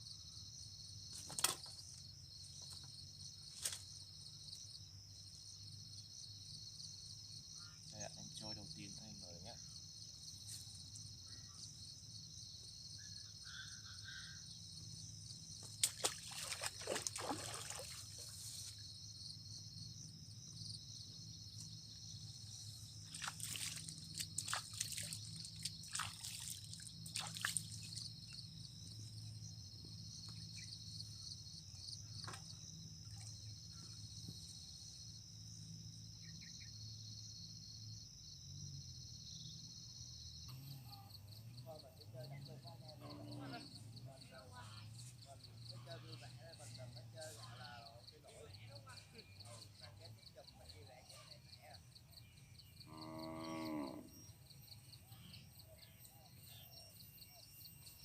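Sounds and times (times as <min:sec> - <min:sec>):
crickets and insects chirring: 0:00.0 - 0:58.0.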